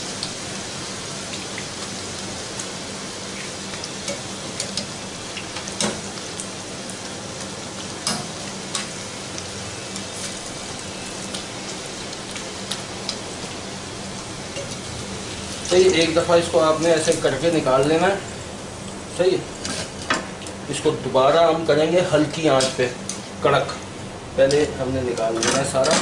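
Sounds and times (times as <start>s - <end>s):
dough deep-frying sizzle: 0.0s - 26.0s.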